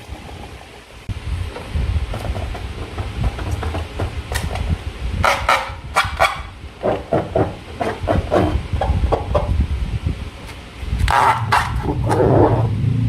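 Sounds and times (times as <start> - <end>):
low rumble: 0.1 - 13.0.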